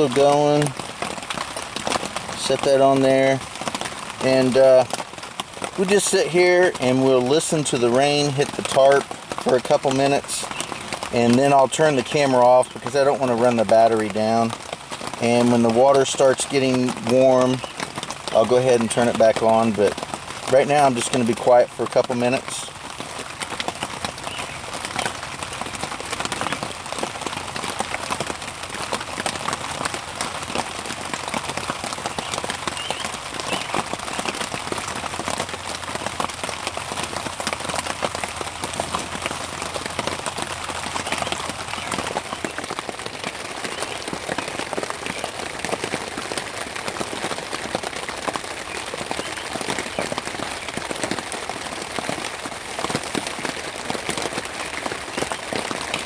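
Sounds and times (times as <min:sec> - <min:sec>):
rain hitting a tarp: 0:00.0 - 0:56.0.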